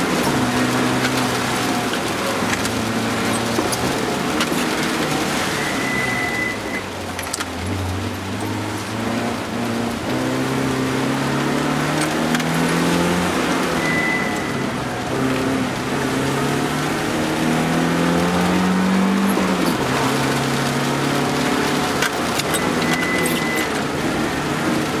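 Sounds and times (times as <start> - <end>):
car engine running hard: 0.0 - 25.0
tyres hissing on wet road: 0.0 - 25.0.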